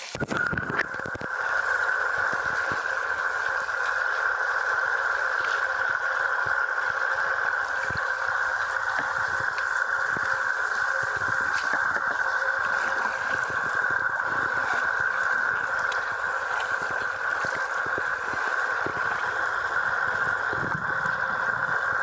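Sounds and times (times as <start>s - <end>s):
water rushing around kayak: 0.0s - 22.0s.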